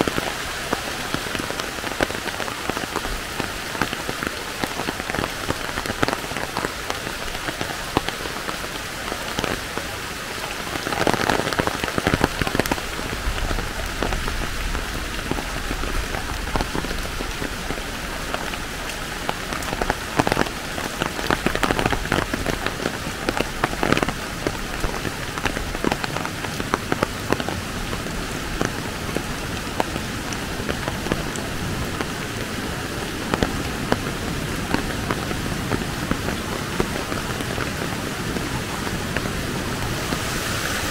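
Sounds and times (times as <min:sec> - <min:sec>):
raindrops ticking on a surface: 0:00.0 - 0:40.9
steady rain falling: 0:00.0 - 0:40.9.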